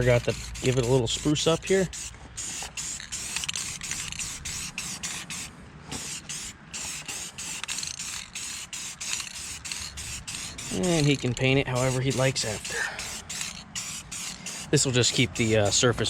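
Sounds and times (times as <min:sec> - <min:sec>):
aerosol spray can hissing: 0:01.9 - 0:15.8.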